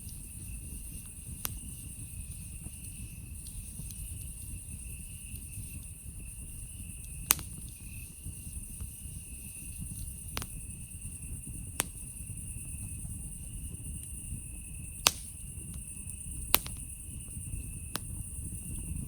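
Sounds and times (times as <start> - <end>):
campfire crackling: 0.0 - 19.0
insects chirring: 0.0 - 19.0
sharp fire pops: 0.0 - 19.0.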